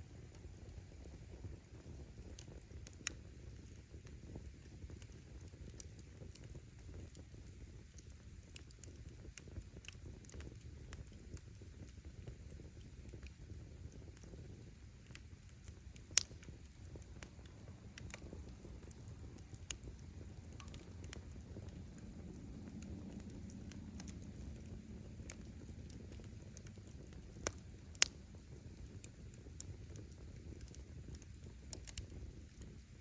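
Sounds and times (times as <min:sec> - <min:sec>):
campfire flames rumbling: 0:00.0 - 0:33.0
firewood popping and crackling: 0:00.0 - 0:33.0.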